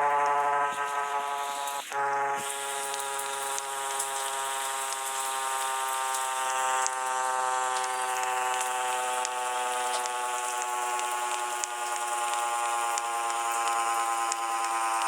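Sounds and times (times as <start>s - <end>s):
siren steady buzzing tone: 0.0s - 15.0s.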